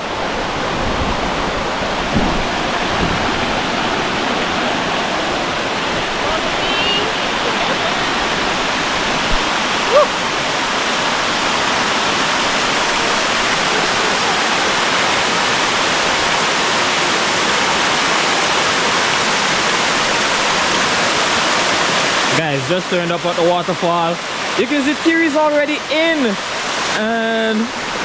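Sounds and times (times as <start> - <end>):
waterfall roaring: 0.0 - 28.0.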